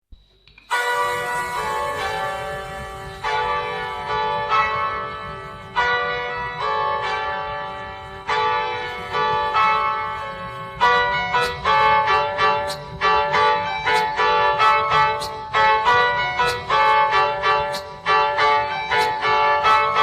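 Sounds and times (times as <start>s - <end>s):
bell-like chimes playing tune: 0.7s - 20.0s.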